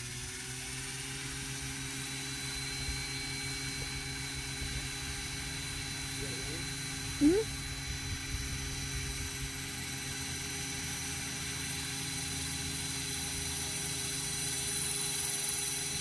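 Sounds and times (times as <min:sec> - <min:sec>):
model helicopter motor whining: 0:00.0 - 0:16.0.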